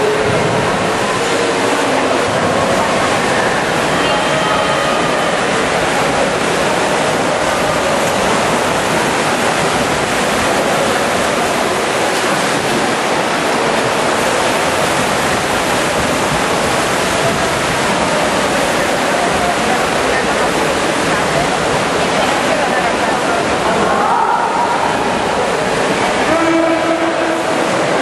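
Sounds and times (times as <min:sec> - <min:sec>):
swimmers splashing: 0:00.0 - 0:28.0.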